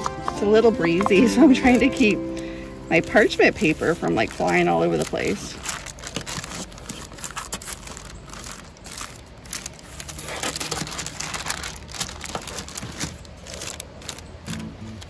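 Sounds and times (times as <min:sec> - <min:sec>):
parchment paper crinkling: 0:00.0 - 0:15.0.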